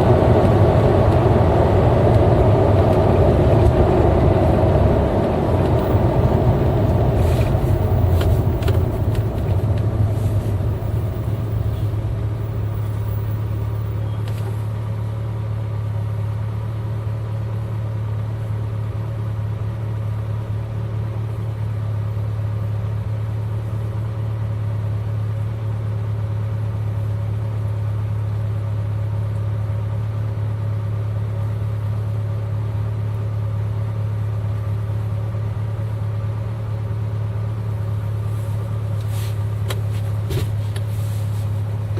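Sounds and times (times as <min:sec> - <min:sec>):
car engine droning: 0:00.0 - 0:41.9.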